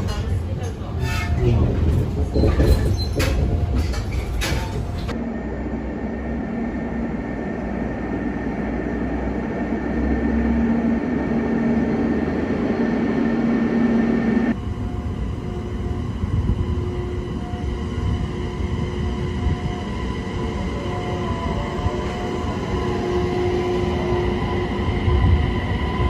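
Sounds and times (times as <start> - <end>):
train carriage rumble and hum: 0.0 - 26.0.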